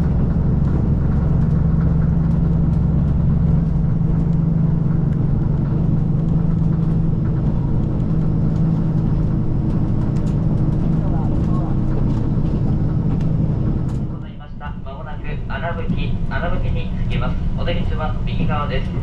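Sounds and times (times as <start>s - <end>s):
diesel train engine drone: 0.0s - 19.0s
wheels rumbling on rails: 0.0s - 19.0s.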